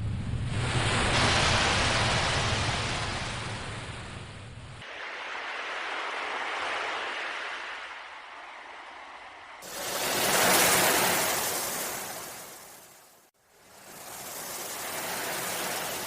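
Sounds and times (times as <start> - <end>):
ocean waves breaking: 0.4 - 16.0.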